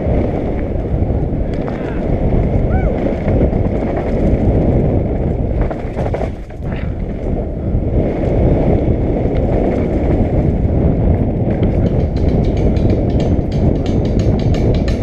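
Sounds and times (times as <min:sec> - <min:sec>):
bike tyres rumbling over dirt: 0:00.0 - 0:15.0.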